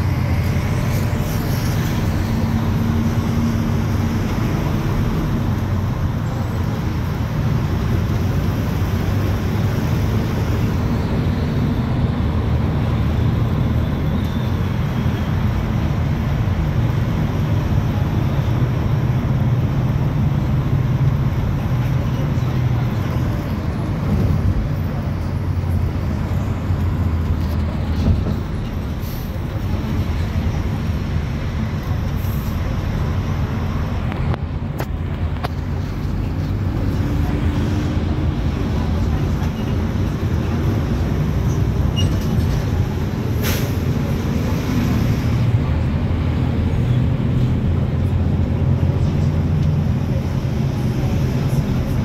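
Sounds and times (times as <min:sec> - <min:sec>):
bus engine drone: 0:00.0 - 0:52.0
road and traffic noise: 0:00.0 - 0:52.0.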